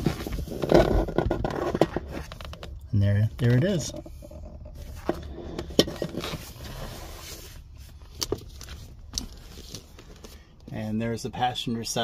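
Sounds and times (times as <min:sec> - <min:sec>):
handling clicks and scraping: 0:00.0 - 0:10.8
low steady rumble: 0:00.0 - 0:12.0.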